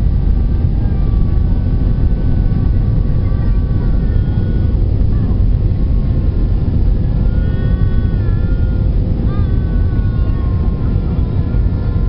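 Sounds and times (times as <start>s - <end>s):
faint steady hum: 0.0s - 12.0s
jet engines and wheels rumbling: 0.0s - 12.0s.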